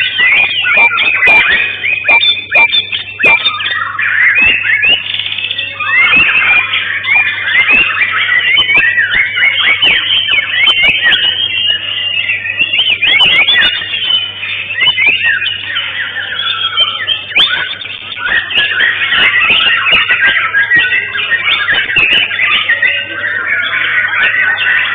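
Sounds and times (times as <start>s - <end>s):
bird singing whistles: 0.0s - 24.9s
other birds singing: 0.0s - 24.9s.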